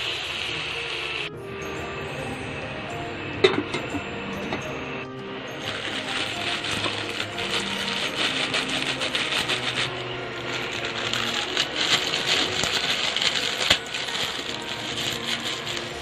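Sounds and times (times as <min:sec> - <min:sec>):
background music: 0:00.0 - 0:16.0
food sizzling: 0:00.0 - 0:16.0.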